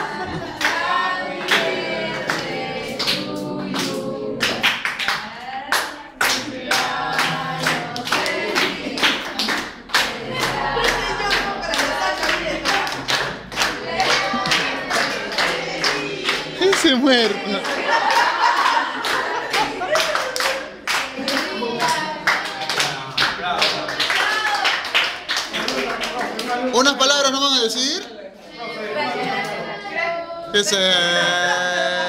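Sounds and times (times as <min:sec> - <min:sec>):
people singing a birthday tune: 0:00.0 - 0:27.4, 0:28.2 - 0:32.0
people clapping in time: 0:00.3 - 0:27.0.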